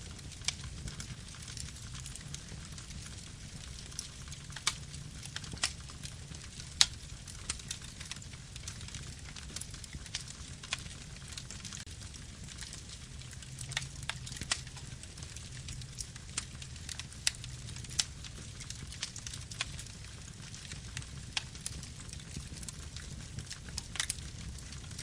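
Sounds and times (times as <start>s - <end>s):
burning wood crackling and popping: 0.0s - 25.0s
low rumble of campfire: 0.0s - 25.0s.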